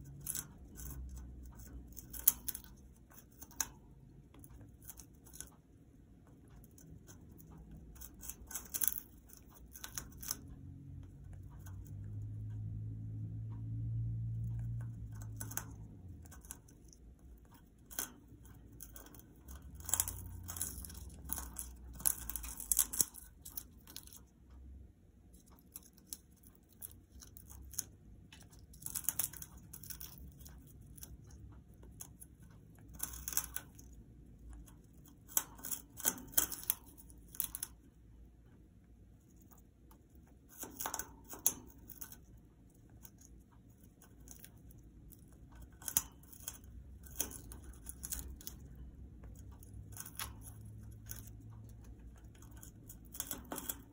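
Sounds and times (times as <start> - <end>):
parrot crunching wood: 0.0 - 5.6, 6.7 - 10.5, 14.5 - 24.3, 25.3 - 37.8, 39.3 - 53.9.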